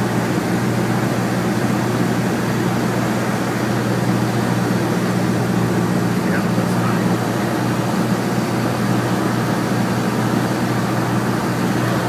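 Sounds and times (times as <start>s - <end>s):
air noise in cabin: 0.0s - 12.0s
propeller plane engine hum: 0.0s - 12.0s.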